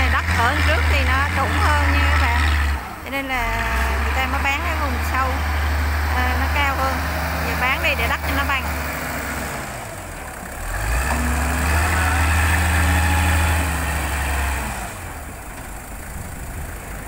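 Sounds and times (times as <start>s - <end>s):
wheel loader diesel engine revving: 0.0s - 17.0s.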